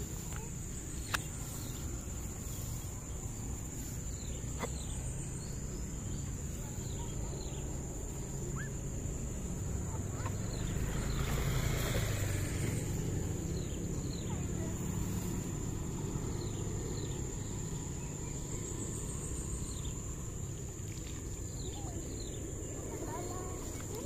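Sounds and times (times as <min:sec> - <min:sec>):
grass rustling: 0:00.0 - 0:24.0.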